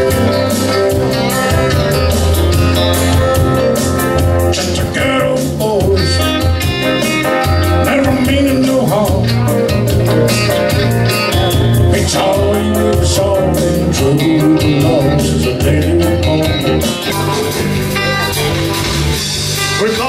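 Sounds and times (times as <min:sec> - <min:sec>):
live country-rock band: 0:00.0 - 0:20.0.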